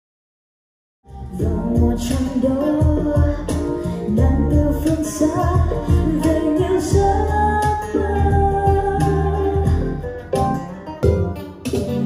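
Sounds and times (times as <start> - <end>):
song played through speaker: 1.1 - 12.0.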